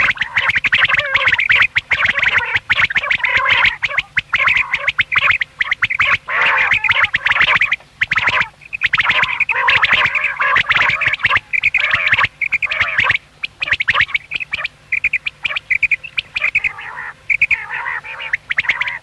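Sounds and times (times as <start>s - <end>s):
quail raspy chatter: 0.0s - 19.0s.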